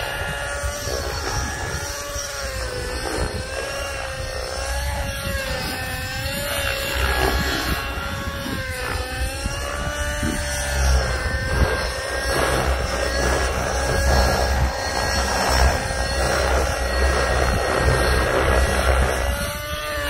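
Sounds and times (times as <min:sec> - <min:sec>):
helicopter rotors: 0:00.0 - 0:20.0
model helicopter engine: 0:00.0 - 0:20.0.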